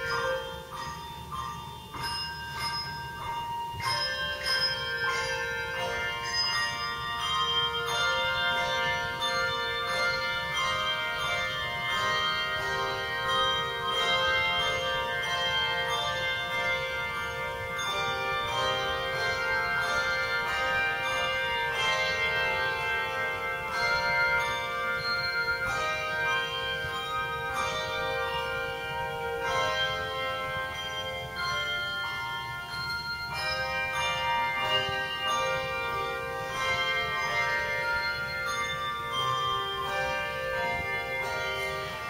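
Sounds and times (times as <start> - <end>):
handbells ringing in chords: 0.0 - 42.0.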